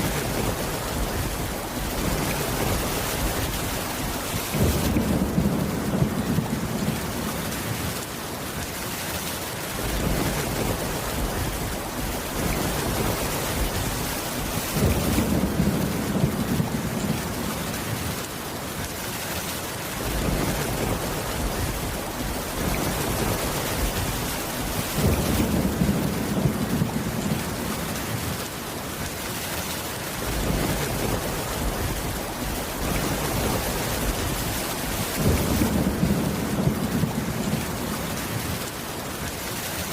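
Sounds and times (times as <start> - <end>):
low rumble of thunder: 0.0 - 8.2, 9.8 - 18.2, 20.0 - 28.6, 30.1 - 38.8
heavy rain falling on a roof: 0.0 - 39.9.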